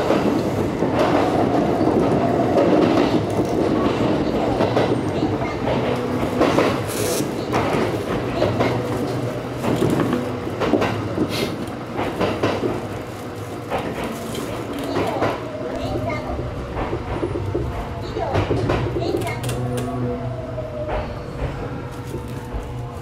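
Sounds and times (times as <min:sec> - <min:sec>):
train wheel clacks: 0:00.0 - 0:12.9, 0:13.6 - 0:19.9
train running rumble: 0:00.0 - 0:23.0.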